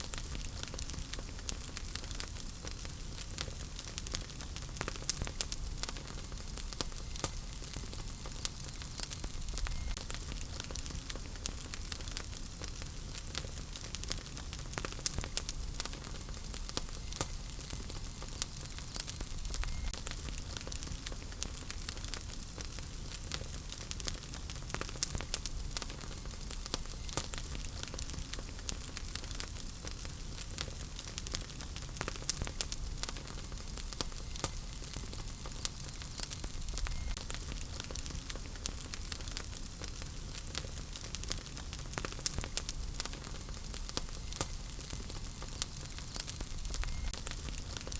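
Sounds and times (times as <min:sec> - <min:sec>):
low rumble of flames: 0:00.0 - 0:47.9
wood fire popping and snapping: 0:00.0 - 0:47.9.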